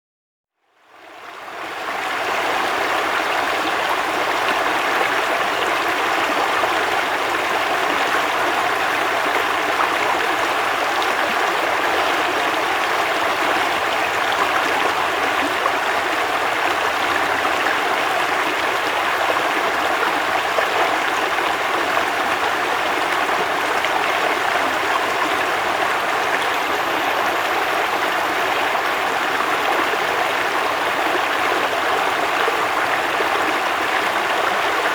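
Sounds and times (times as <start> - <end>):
river water rushing: 1.6 - 34.9.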